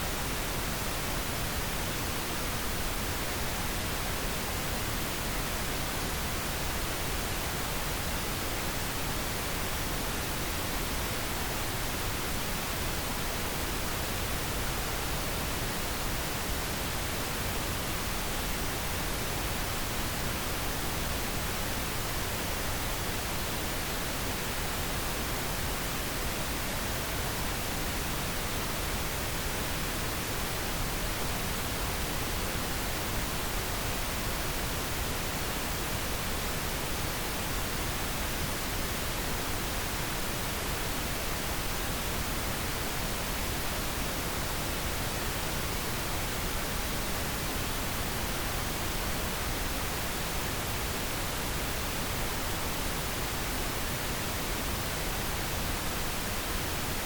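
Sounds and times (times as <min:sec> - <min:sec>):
steady pink noise hiss: 0:00.0 - 0:57.0.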